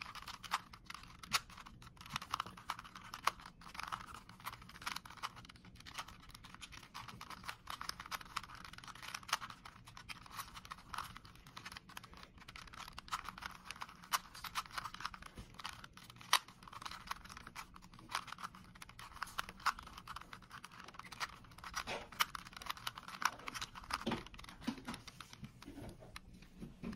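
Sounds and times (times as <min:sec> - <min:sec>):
puzzle cube plastic clicks: 0:00.0 - 0:26.6.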